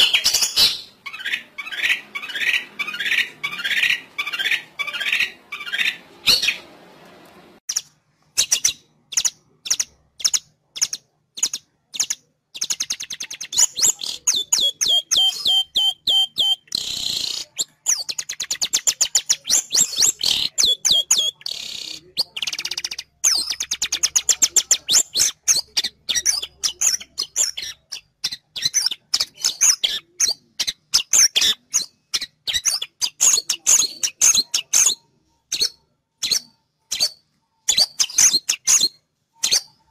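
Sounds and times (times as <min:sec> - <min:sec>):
bird chirping rapidly: 0:00.0 - 0:06.7, 0:07.7 - 0:39.9.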